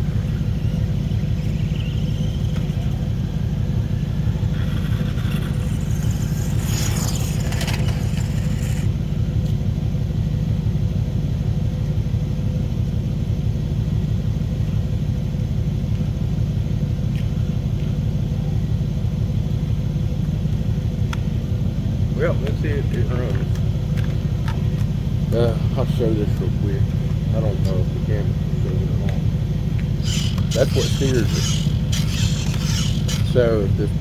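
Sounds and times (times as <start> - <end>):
small engine running: 0.0 - 9.6, 16.0 - 34.0.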